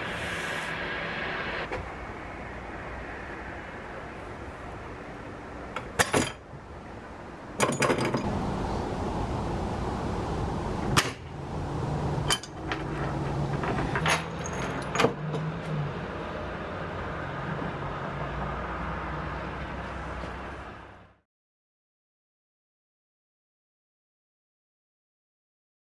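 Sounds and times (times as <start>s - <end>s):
steady background noise: 0.0s - 21.2s.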